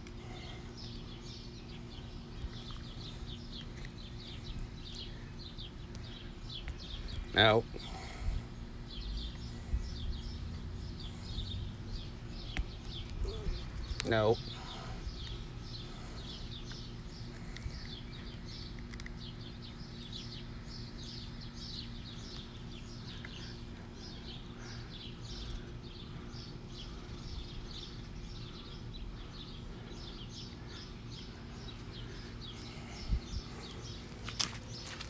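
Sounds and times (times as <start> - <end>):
birds chirping: 0.0 - 35.0
steady low hum: 0.0 - 35.0.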